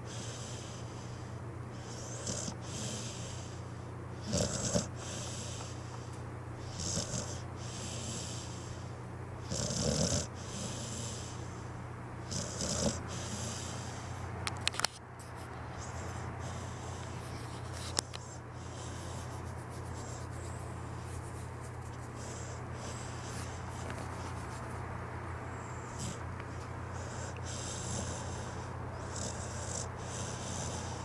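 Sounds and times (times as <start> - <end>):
dog snoring softly: 0.0 - 24.9, 25.5 - 31.0
steady low hum: 0.0 - 31.0.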